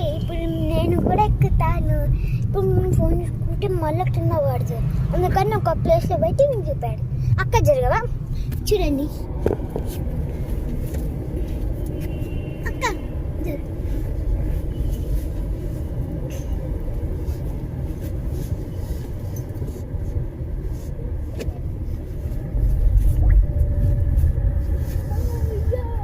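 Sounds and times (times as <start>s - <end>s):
car rumble from inside: 0.0s - 26.0s.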